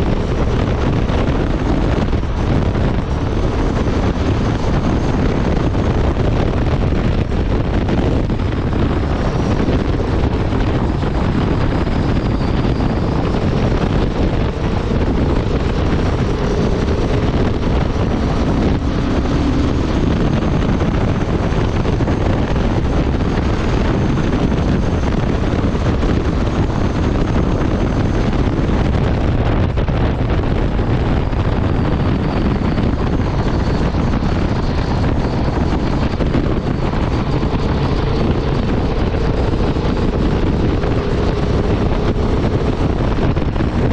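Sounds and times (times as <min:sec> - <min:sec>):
motorcycle engine and exhaust: 0:00.0 - 0:43.9
wind rushing over microphone: 0:00.0 - 0:43.9.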